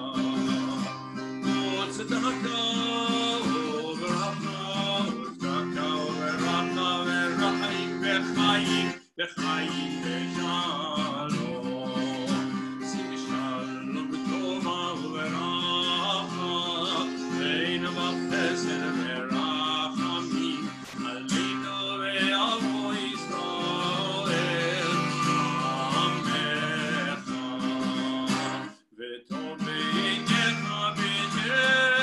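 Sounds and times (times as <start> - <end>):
man singing: 0.0 - 32.0
strummed acoustic guitar: 0.0 - 32.0.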